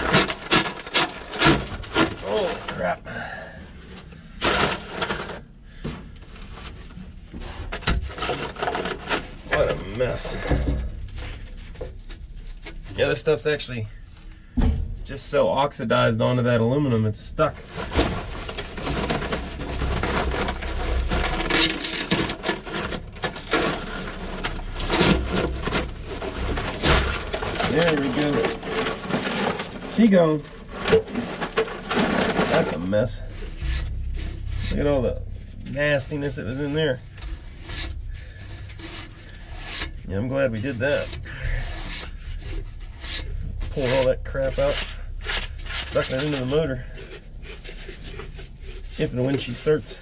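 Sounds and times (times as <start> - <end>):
rubber hose tearing and scraping: 0.0 - 13.3, 17.4 - 50.0.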